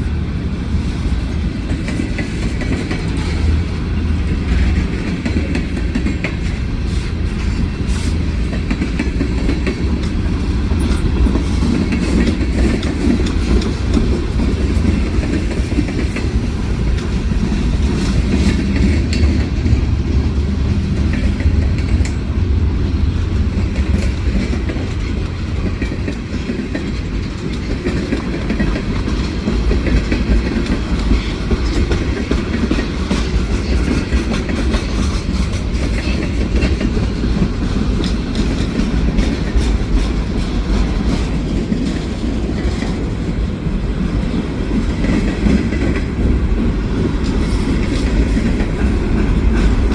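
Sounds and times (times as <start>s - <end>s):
train wheels clacking on rails: 0.0s - 49.9s.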